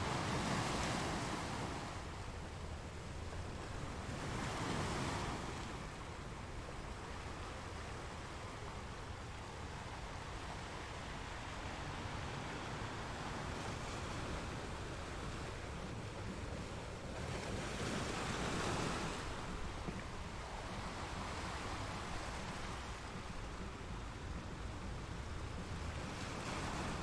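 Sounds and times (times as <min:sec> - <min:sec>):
ocean waves washing: 0:00.0 - 0:27.0.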